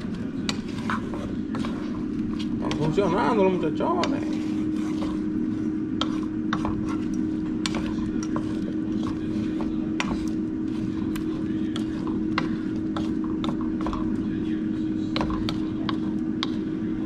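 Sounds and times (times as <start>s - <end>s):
air fryer fan hum: 0.0s - 17.0s.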